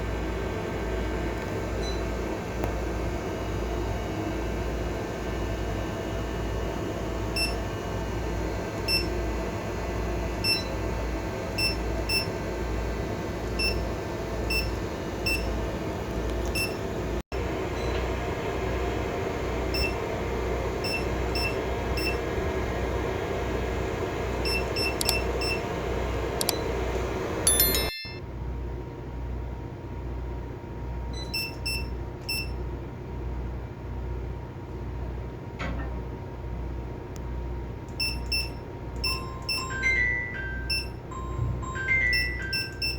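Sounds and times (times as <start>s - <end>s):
low machinery hum with throb: 0.0s - 42.9s.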